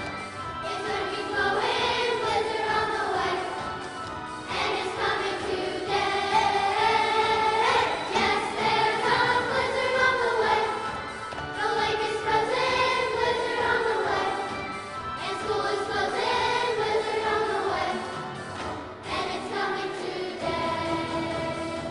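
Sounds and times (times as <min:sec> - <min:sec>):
children's choir singing: 0:00.0 - 0:21.9.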